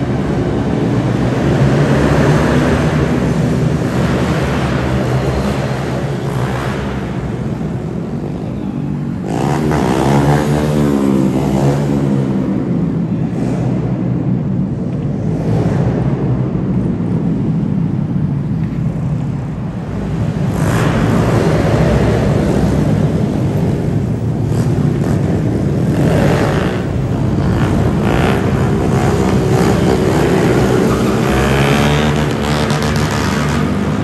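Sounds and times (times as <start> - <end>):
mini bike engines revving: 0.0 - 14.2, 19.9 - 34.0
car traffic: 0.0 - 34.0.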